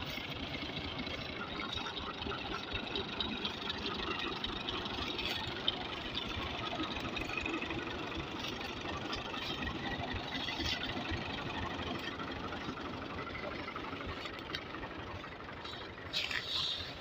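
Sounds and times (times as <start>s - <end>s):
diesel tractor engine idling: 0.0s - 17.0s.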